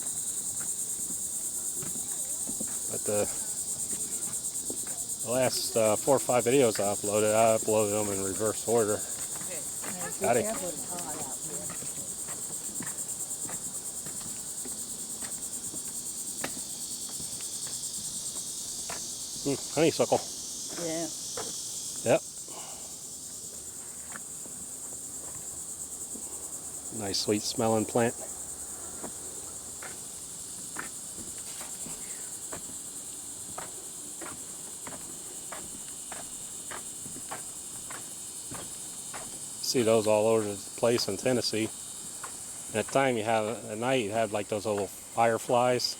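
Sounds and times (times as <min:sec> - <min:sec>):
insects trilling: 0:00.0 - 0:45.9
footsteps: 0:00.5 - 0:21.6, 0:23.5 - 0:26.2, 0:28.9 - 0:32.8, 0:33.4 - 0:45.6.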